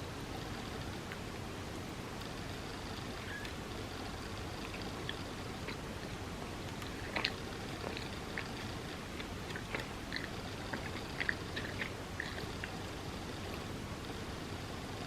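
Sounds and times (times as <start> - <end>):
steady background hiss: 0.0 - 15.0
chewing with wet mouth clicks: 2.2 - 14.2.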